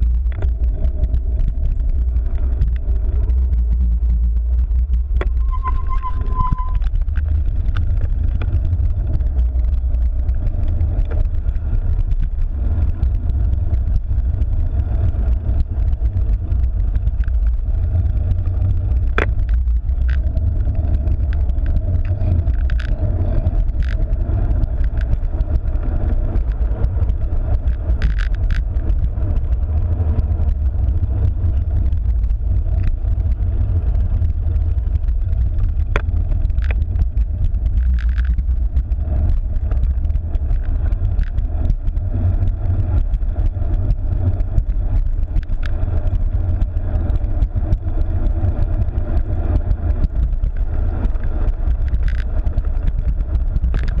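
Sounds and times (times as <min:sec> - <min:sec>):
bike clicks and rattles: 0:00.0 - 0:05.5, 0:06.7 - 0:54.0
wind on microphone: 0:00.0 - 0:54.0.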